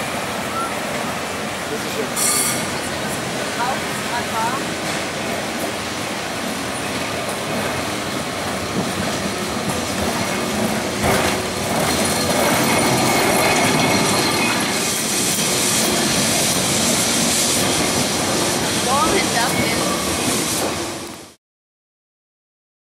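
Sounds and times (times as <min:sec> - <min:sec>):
tram wheels rumbling on rails: 0:00.0 - 0:21.4.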